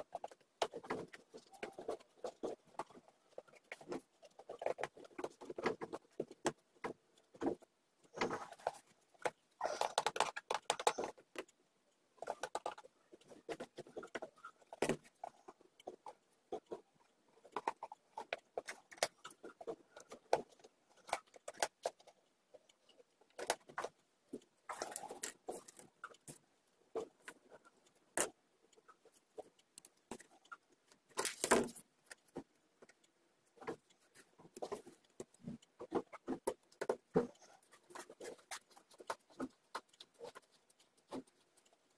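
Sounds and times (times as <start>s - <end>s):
small metal clicks and taps: 0.0s - 41.9s.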